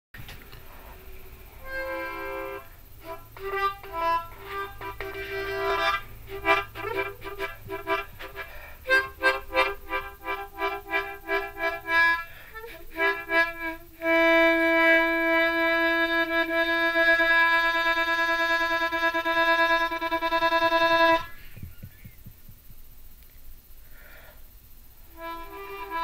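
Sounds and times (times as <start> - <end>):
harmonica long wavering note: 1.5 - 21.6, 25.1 - 26.0
harmonica chords: 1.5 - 22.3, 25.1 - 26.0.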